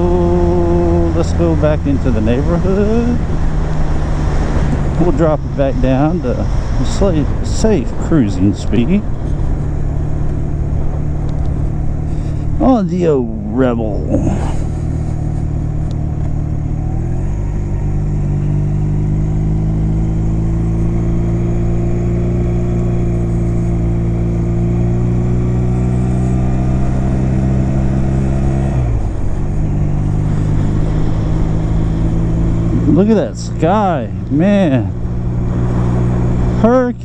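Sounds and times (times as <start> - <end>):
motorcycle engine cruising: 0.0 - 37.0.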